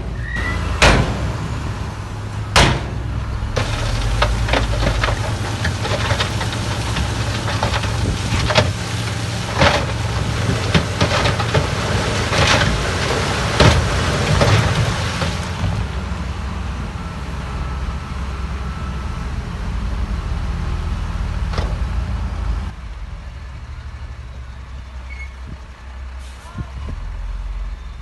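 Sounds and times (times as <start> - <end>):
heavy diesel machinery engine: 0.0 - 28.0.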